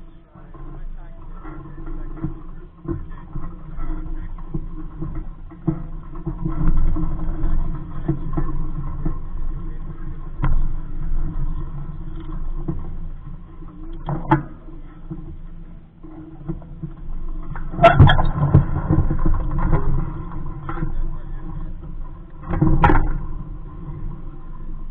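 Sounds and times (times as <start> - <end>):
boat gear knocking and clattering: 1.6 - 24.9.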